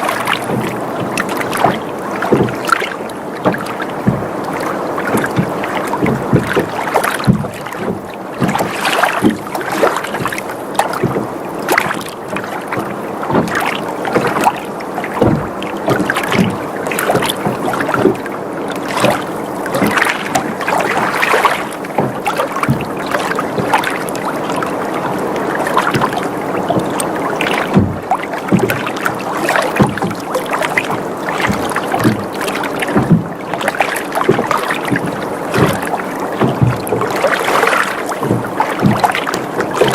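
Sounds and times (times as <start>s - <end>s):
small splashes and knocks: 0.0s - 39.9s
water lapping against boat hull: 0.0s - 39.9s.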